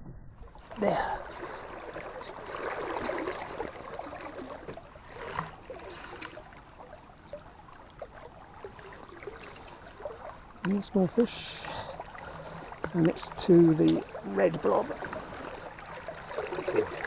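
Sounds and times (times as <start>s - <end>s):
water splashes: 0.4s - 17.0s
river water flowing: 0.6s - 17.0s.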